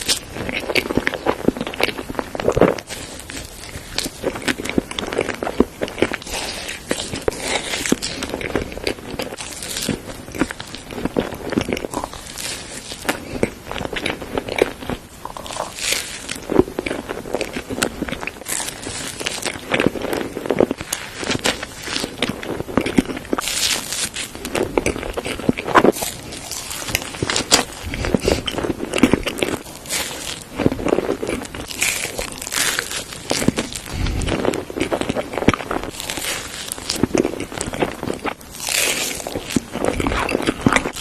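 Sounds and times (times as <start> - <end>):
crunchy pastry chewing: 0.0 - 41.0
wet mouth sounds: 0.0 - 41.0.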